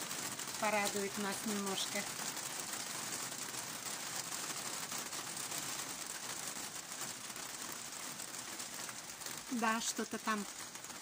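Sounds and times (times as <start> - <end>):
light rain on foliage: 0.0 - 11.0.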